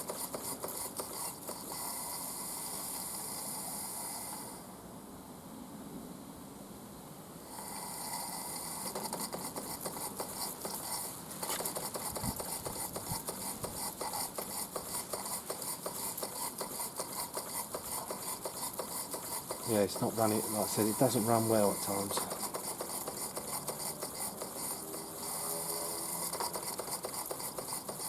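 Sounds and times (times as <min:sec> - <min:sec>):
steam engine clicks and puffs: 0:00.0 - 0:04.5, 0:07.5 - 0:28.0
steam hiss: 0:00.0 - 0:05.0, 0:07.4 - 0:28.0.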